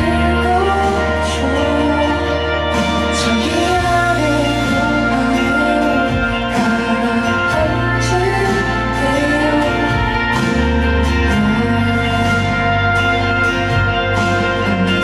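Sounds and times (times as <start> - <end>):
woman singing pop song: 0.0 - 13.4
instrumental accompaniment: 0.0 - 15.0.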